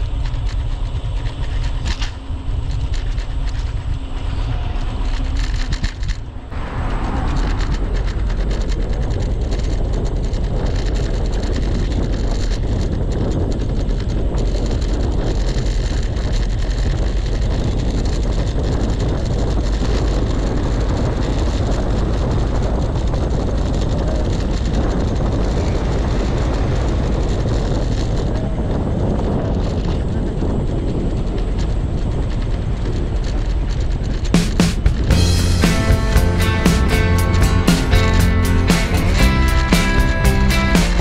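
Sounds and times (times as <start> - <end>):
scooter road noise: 0.0 - 41.0
wind rumble on microphone: 0.0 - 41.0.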